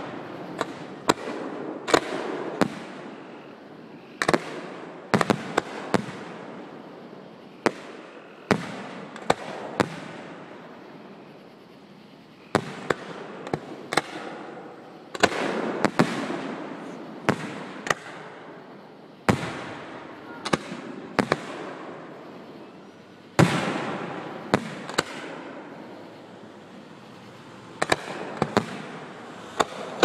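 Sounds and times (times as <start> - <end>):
fireworks bursting with echo: 0.0 - 30.0.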